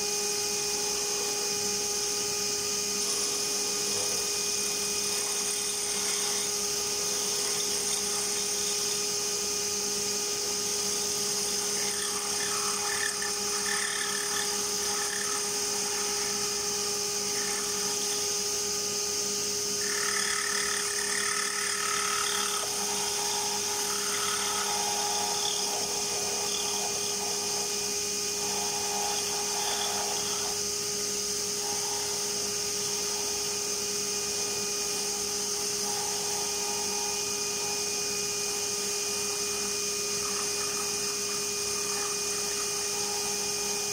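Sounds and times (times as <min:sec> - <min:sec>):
lathe motor whine: 0:00.0 - 0:43.9
tool shaping spinning wood: 0:00.4 - 0:43.9.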